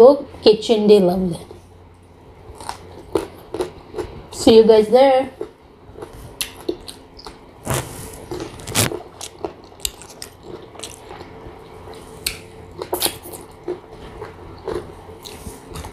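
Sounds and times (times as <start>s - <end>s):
crunching and chewing mango: 1.5s - 4.5s, 5.2s - 15.9s.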